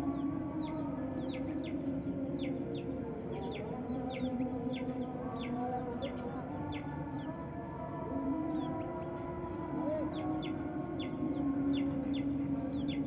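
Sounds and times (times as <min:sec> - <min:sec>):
bird chirping: 0:00.0 - 0:07.4, 0:08.4 - 0:13.0.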